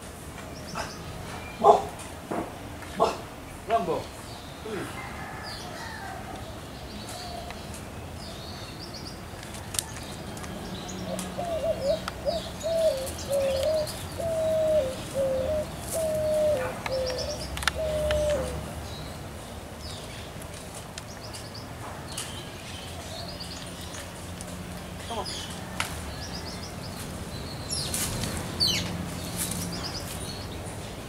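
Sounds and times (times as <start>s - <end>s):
small birds chirping: 5.5s - 31.0s.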